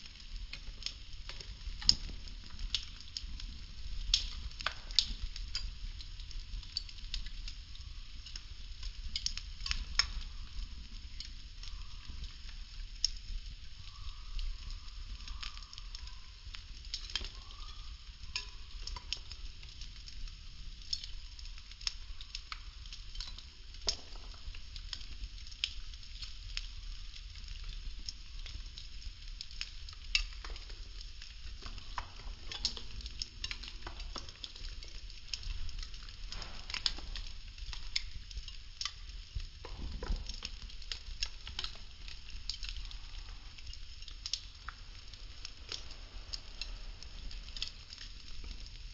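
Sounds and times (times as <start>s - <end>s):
fire crackling and popping: 0.0s - 48.9s
wooden sticks burning: 0.0s - 48.9s.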